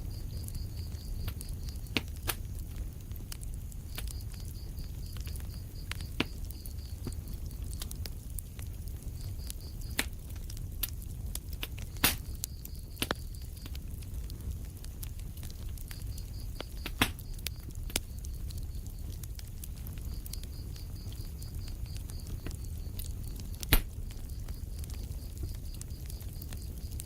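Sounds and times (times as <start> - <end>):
fire popping: 0.0 - 27.0
wood fire crackling: 0.0 - 27.0.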